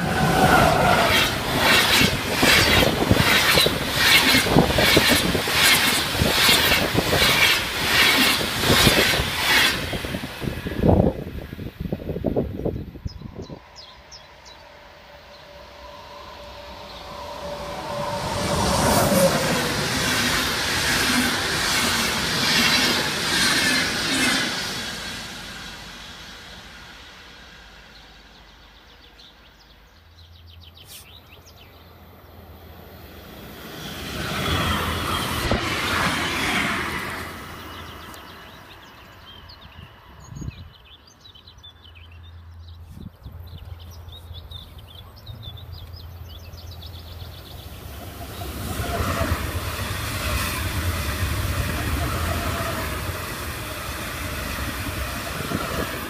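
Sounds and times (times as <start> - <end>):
electric trains passing: 0.0 - 56.0.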